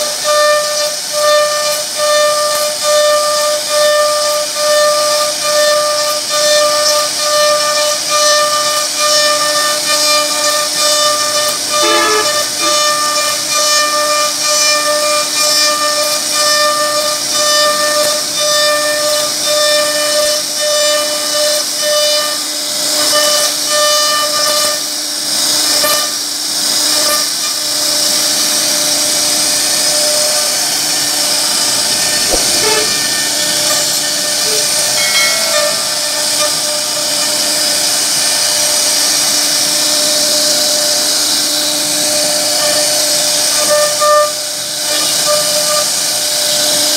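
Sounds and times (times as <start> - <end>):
router spindle whining: 0.0 - 46.9
bit cutting wood hiss: 0.4 - 39.2.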